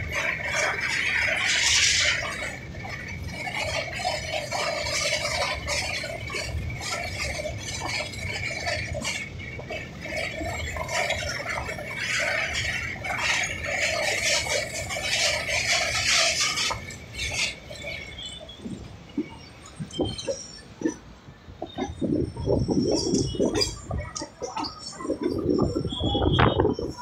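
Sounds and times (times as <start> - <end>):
steady high whine: 0.0 - 27.0
train rattling over bridge: 0.0 - 27.0.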